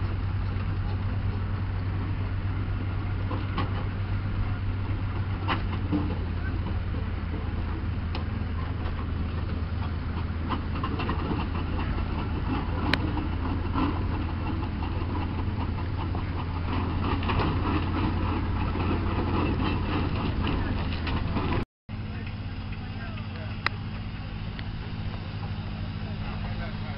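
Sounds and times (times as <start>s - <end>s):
low engine drone: 0.0s - 26.9s
steam engine exhaust chuffing: 0.0s - 26.9s.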